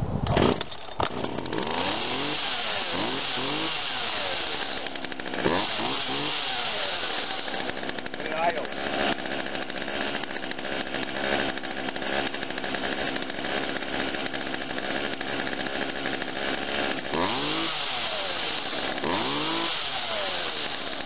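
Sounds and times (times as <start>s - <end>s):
chainsaw engine idling and revving: 0.3s - 21.0s.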